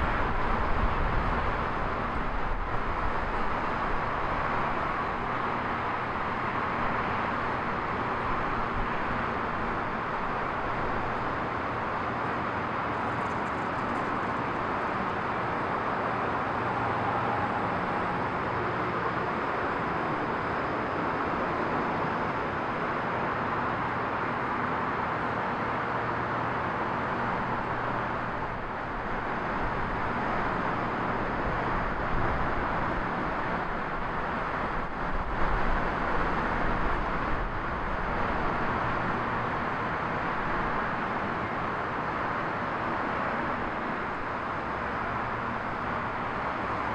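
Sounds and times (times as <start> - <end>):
steady mechanical hum: 0.0 - 46.9.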